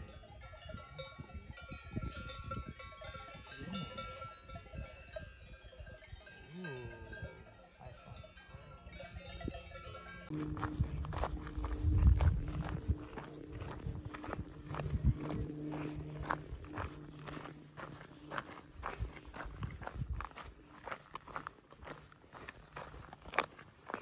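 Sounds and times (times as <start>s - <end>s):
cowbells ringing: 0.0s - 24.0s.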